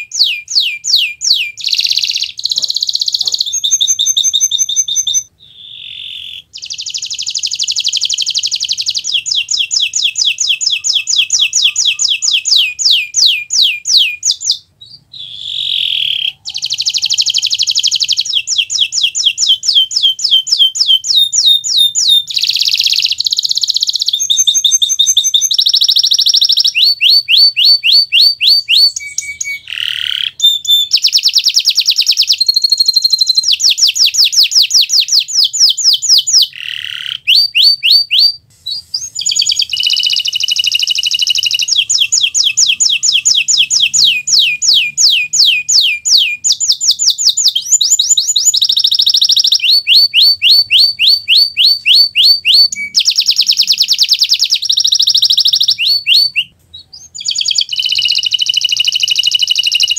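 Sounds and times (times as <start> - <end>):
canary singing rapid trills: 0.0 - 59.9.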